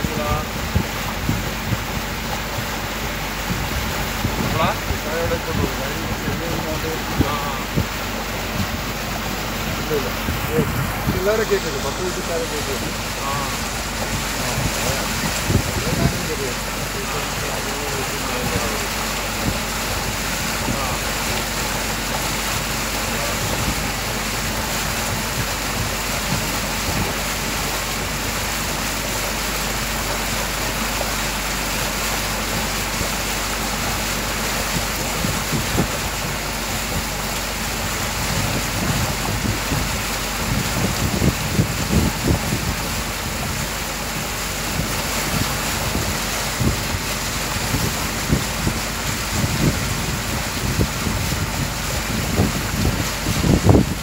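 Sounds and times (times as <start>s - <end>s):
wind buffeting microphone: 0.0s - 27.3s, 37.8s - 54.0s
boat engine hum: 0.0s - 54.0s
water rushing along hull: 0.0s - 54.0s.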